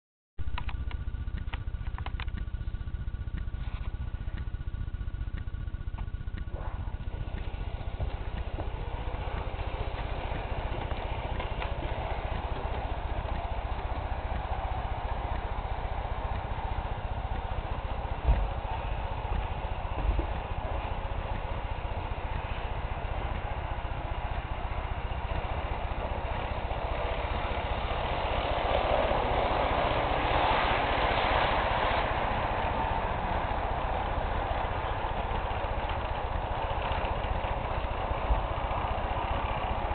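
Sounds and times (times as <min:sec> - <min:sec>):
model train rumbling on track: 0:00.4 - 0:39.9
wheels rattling over rails: 0:00.4 - 0:39.9.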